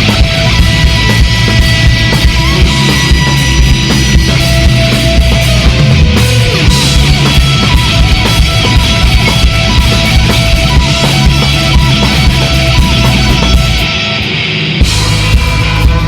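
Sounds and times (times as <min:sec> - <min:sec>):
bass guitar: 0:00.0 - 0:16.0
drum kit: 0:00.0 - 0:16.0
electric guitars: 0:00.0 - 0:16.0.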